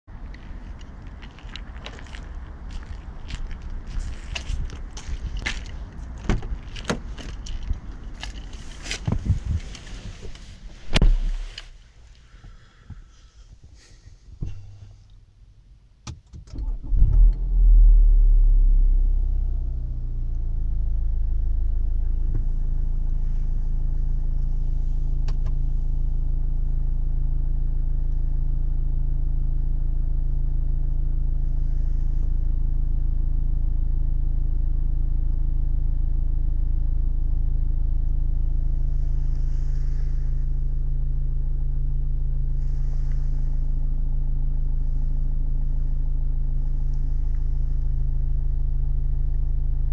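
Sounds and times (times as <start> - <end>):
diesel engine starting and idling: 0.1 - 13.2, 16.4 - 49.9.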